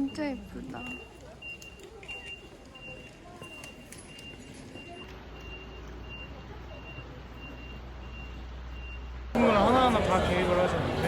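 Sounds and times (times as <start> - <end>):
electronic warning beep: 0.0 - 9.1.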